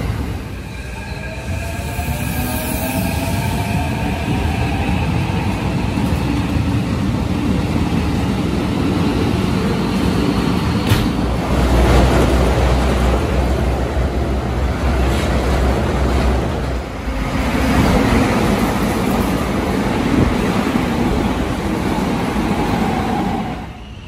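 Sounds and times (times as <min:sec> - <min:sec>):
passing train low rumble: 0:00.0 - 0:24.0
train wheels rumbling on rails: 0:00.0 - 0:24.0.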